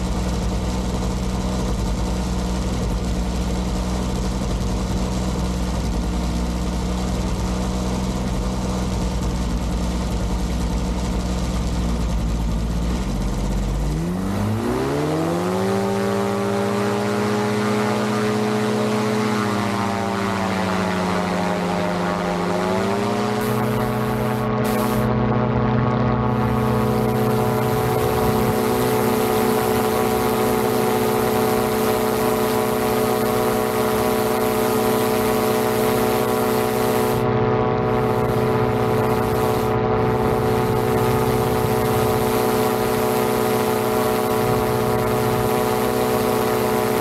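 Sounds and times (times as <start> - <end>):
engine and propeller revving: 0.0 - 47.0.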